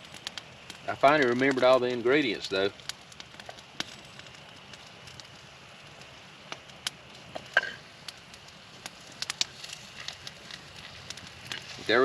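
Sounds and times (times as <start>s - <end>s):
campfire crackling: 0.0s - 12.0s
food sizzling in a skillet: 0.8s - 12.0s.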